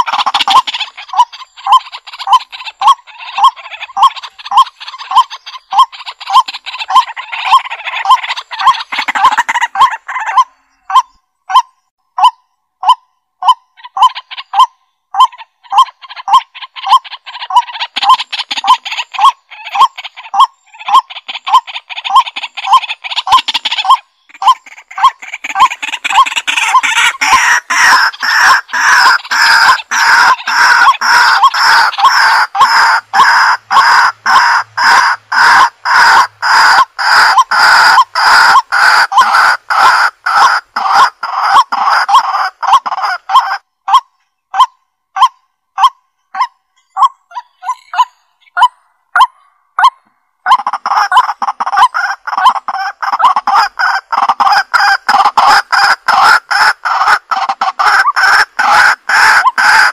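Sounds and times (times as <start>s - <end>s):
fowl calling: 0.0s - 59.9s.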